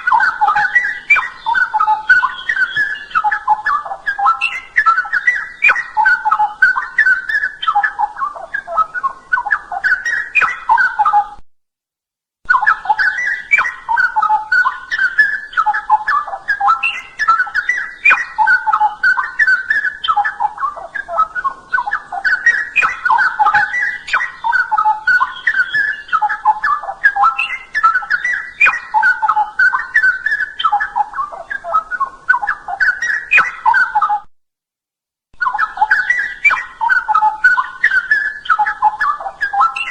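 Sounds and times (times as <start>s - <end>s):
bird singing warbling phrases: 0.0s - 11.4s, 12.5s - 34.2s, 35.4s - 39.9s.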